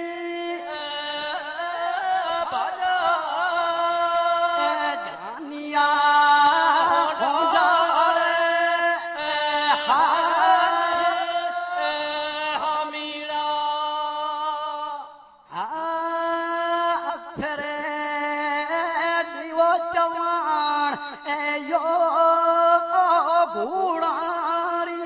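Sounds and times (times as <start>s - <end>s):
person singing ornamented lines: 0.0s - 25.0s.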